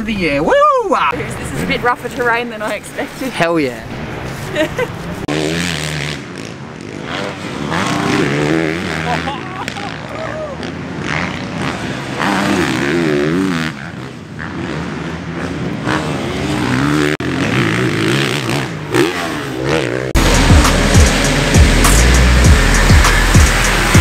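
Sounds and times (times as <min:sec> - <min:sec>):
motocross bike engines revving: 0:03.8 - 0:24.0.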